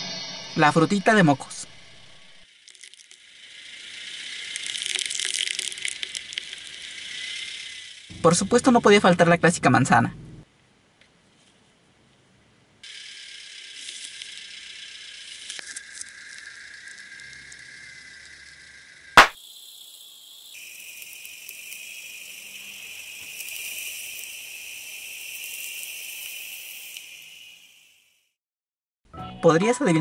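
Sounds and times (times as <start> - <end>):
high-pitched hiss with buzzing tones: 0.0 - 9.1, 12.8 - 28.2.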